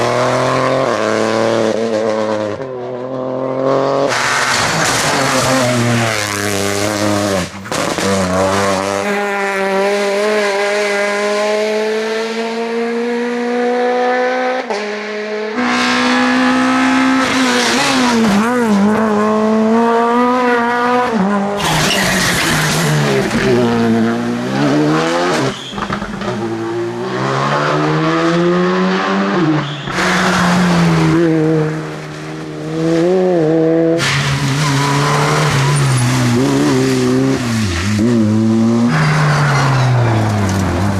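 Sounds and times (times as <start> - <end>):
rally car engines at full throttle: 0.0 - 40.9.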